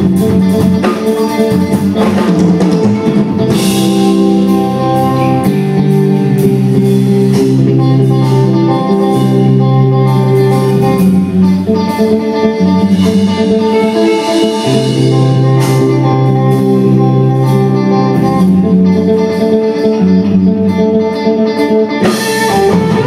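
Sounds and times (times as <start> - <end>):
drum kit: 0.0 - 23.0
electric bass: 0.0 - 23.0
electric guitar: 0.0 - 23.0.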